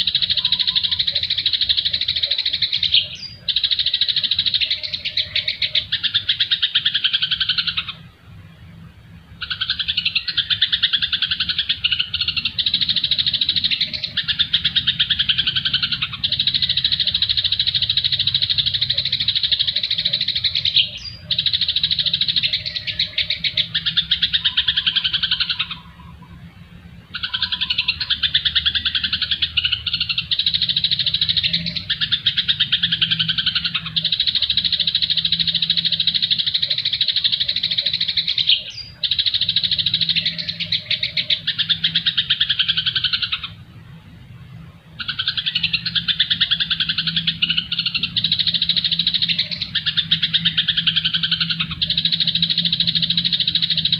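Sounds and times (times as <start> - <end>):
low steady hum: 0.0 - 53.9
songbirds chattering trills: 0.0 - 53.9.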